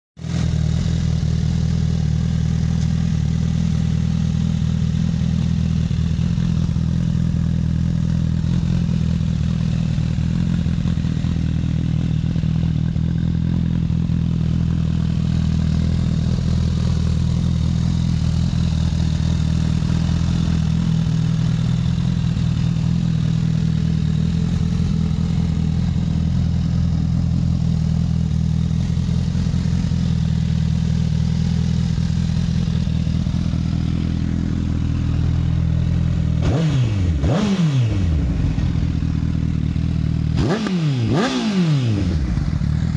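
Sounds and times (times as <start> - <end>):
motorcycle engine idling: 0.2 - 42.9.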